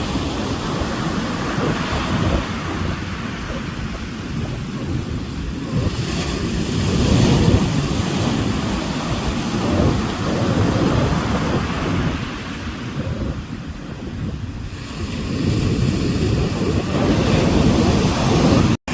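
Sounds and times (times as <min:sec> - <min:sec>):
ocean waves breaking: 0:00.0 - 0:18.9
wind rumble on microphone: 0:00.0 - 0:18.9.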